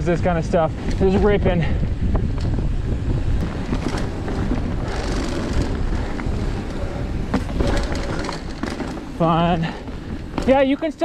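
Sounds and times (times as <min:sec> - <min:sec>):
bike clicks and rattles: 0:00.0 - 0:11.0
tyres rumbling on dirt: 0:00.0 - 0:11.0
wind buffeting microphone: 0:00.0 - 0:11.0.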